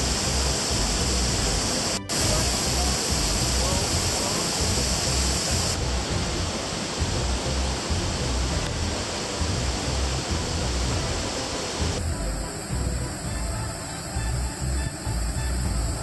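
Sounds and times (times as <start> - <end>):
fast-flowing river water: 0.0 - 16.0
waterfall roar: 0.0 - 16.0.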